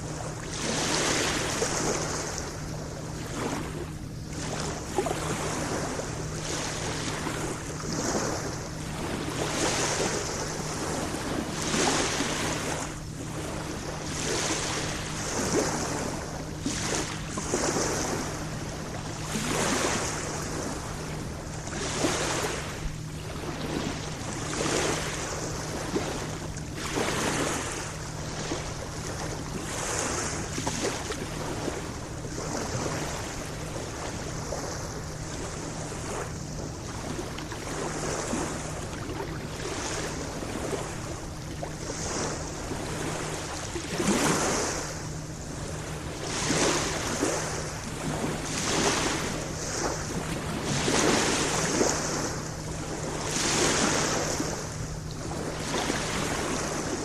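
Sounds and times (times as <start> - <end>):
lake waves splashing on shore: 0.0 - 57.0.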